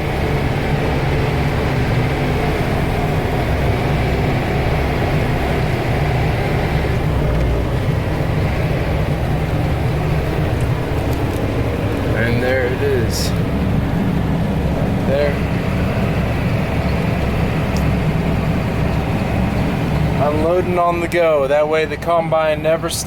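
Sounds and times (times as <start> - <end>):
heavy farm machinery engines running: 0.0 - 23.0.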